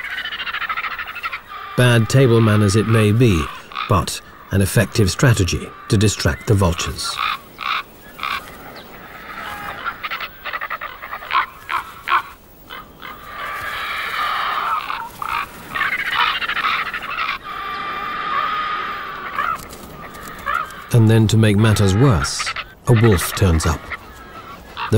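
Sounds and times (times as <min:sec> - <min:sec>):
ravens and vultures calling harshly: 0:00.0 - 0:24.9.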